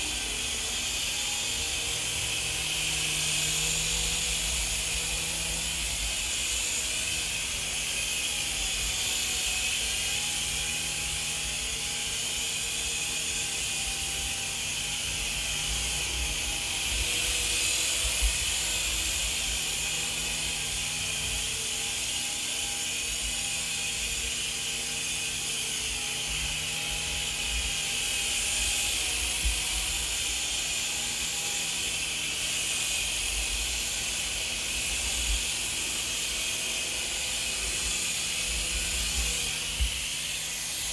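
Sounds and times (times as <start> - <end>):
toy helicopter motors whining: 0.0 - 40.9.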